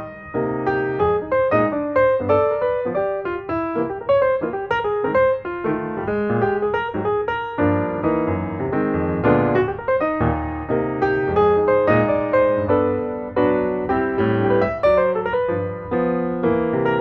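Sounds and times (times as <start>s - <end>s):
background piano music: 0.0s - 17.0s.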